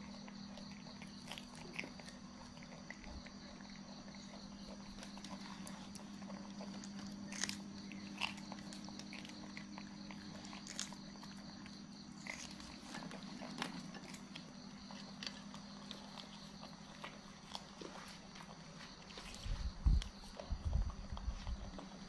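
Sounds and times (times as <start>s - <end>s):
monkeys chewing crunchy beans: 0.0s - 22.0s
steady low hum: 0.0s - 22.0s.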